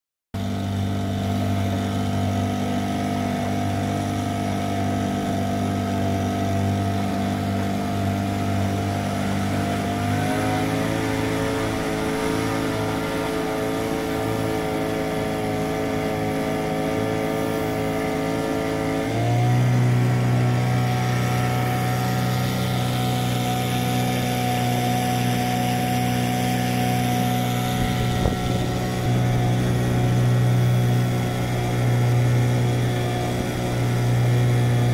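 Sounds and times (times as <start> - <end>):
motorboat engine running: 0.4 - 34.9
water and wind noise: 0.4 - 34.9.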